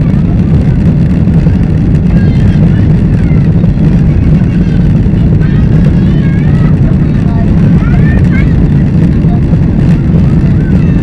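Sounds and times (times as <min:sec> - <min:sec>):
jet engine low rumble in cabin: 0:00.0 - 0:11.0.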